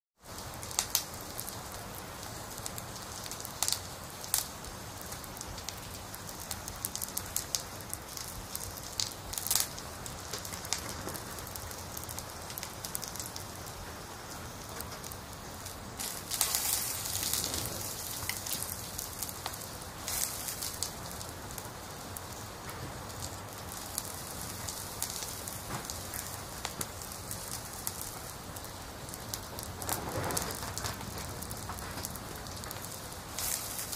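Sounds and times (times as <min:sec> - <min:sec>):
oil and meat sizzling: 0:00.2 - 0:33.9.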